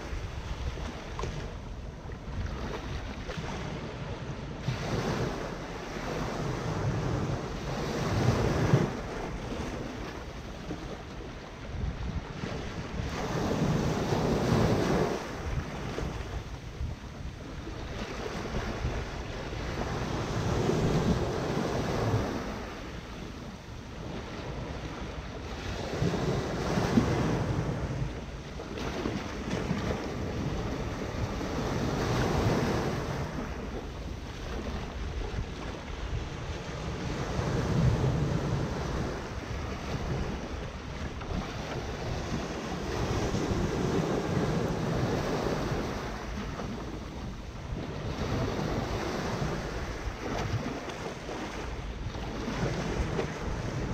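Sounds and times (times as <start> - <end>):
small waves washing in: 0.0 - 53.9.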